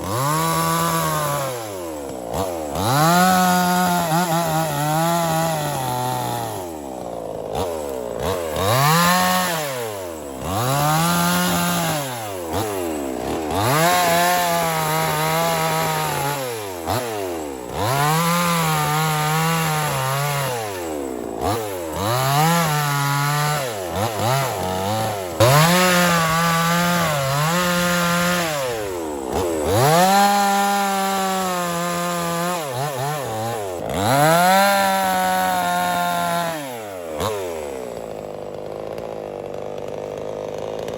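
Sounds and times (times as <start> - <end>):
mini chainsaw cutting wood: 0.0 - 40.9.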